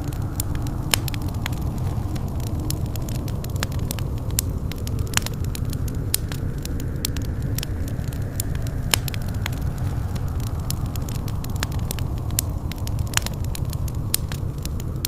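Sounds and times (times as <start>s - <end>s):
fire popping and snapping: 0.0s - 15.0s
low rumble of flames: 0.0s - 15.0s.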